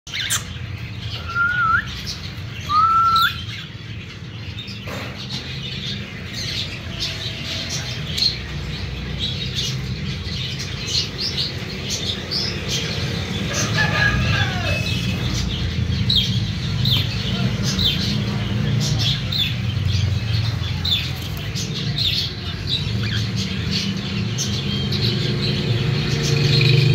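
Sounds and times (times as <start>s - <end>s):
birds whistling and chirping: 0.1s - 26.9s.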